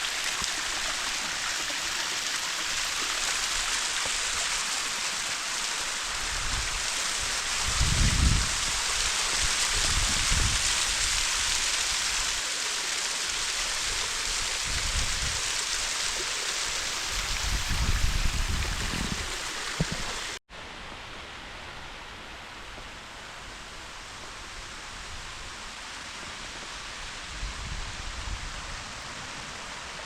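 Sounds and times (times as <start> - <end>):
waterfall rushing hiss: 0.0 - 20.8, 22.6 - 30.0.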